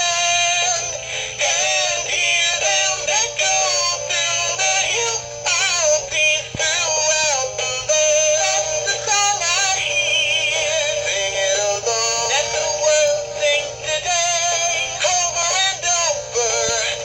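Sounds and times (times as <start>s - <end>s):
toy speaker playing sung song: 0.0s - 17.0s.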